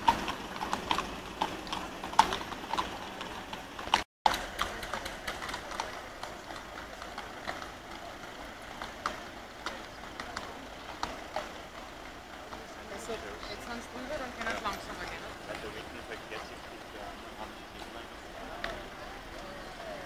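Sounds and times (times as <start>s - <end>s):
hooves clip-clopping on asphalt: 0.0s - 20.0s.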